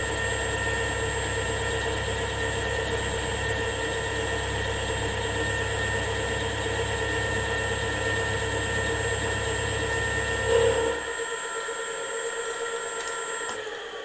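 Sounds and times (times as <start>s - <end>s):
milling machine whining hum: 0.0s - 14.0s.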